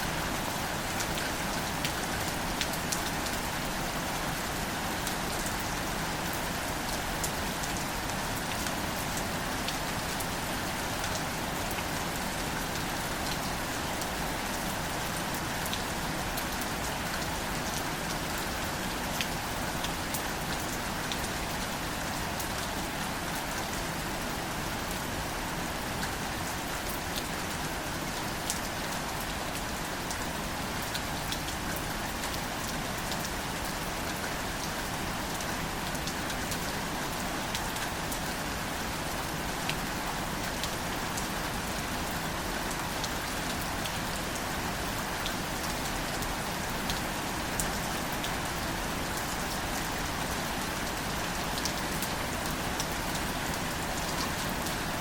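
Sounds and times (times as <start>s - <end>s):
gentle rain on plants: 0.0s - 55.0s.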